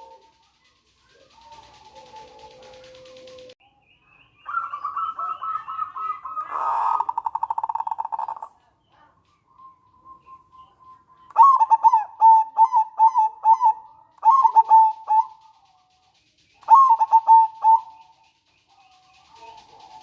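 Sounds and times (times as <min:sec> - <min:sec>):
dove cooing: 0:00.0 - 0:03.6, 0:04.5 - 0:09.2, 0:10.2 - 0:16.0, 0:16.6 - 0:20.0.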